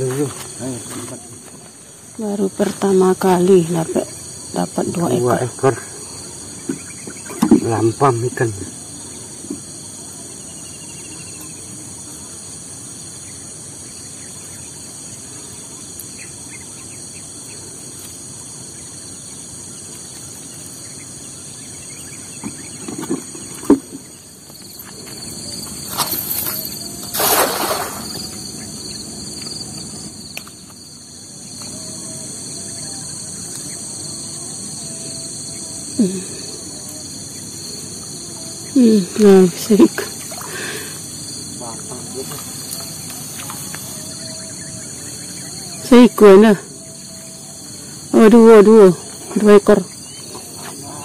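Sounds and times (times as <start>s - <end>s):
insects droning: 0.0s - 51.0s.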